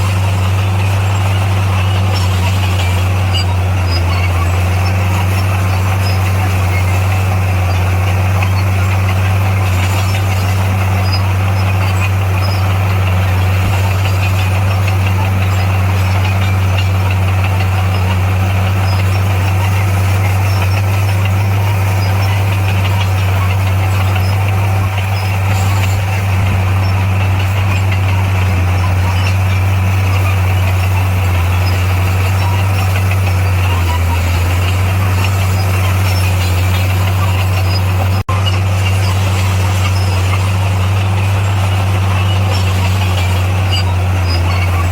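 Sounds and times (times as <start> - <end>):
diesel engine low drone: 0.0 - 44.9.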